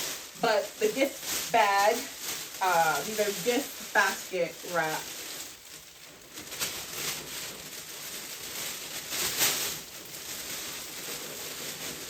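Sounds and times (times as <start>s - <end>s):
plastic wrap rustling and crinkling: 0.0s - 12.0s.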